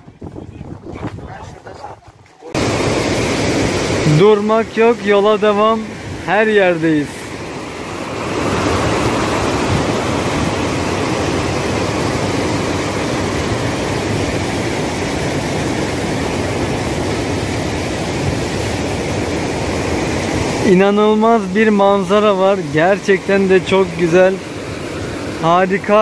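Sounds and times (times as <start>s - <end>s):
river rapids roaring over rocks: 2.5s - 5.2s, 5.8s - 26.0s.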